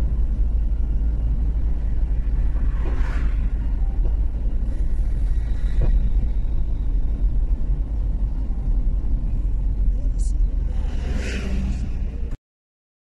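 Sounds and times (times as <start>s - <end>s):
car engine rumble: 0.0s - 12.4s
road noise inside car: 0.0s - 12.4s.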